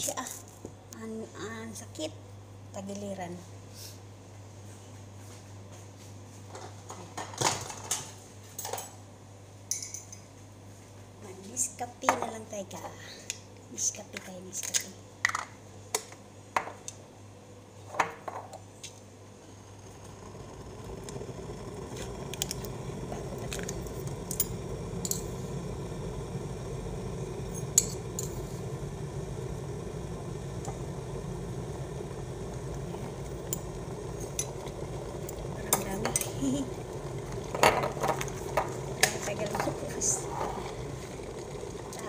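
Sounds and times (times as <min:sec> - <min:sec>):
steady low hum: 0:08.2 - 0:42.0.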